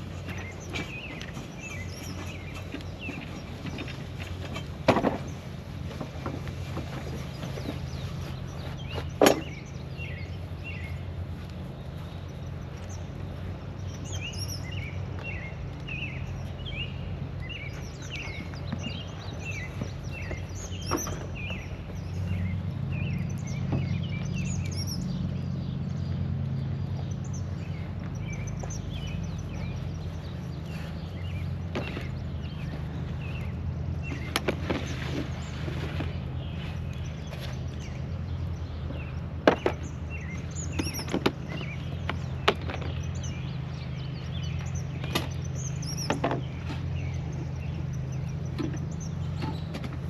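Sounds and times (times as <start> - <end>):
songbird chirping: 0.0 - 50.0
steady low hum: 0.0 - 50.0.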